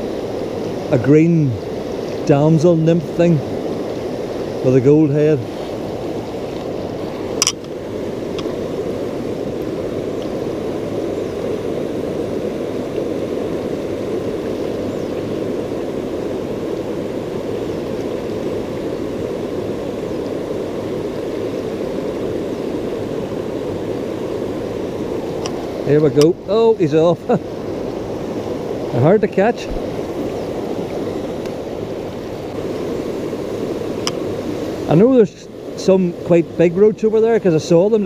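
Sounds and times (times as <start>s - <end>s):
river water rushing over rocks: 0.0s - 38.0s.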